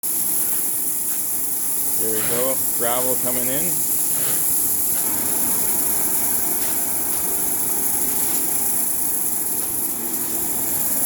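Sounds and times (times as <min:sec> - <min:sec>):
conveyor belt throwing gravel: 0:00.0 - 0:11.0.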